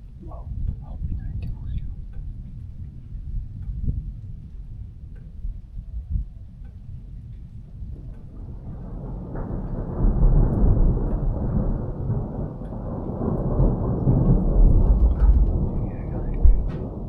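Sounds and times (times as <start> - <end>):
rolling thunder: 0.0 - 17.0.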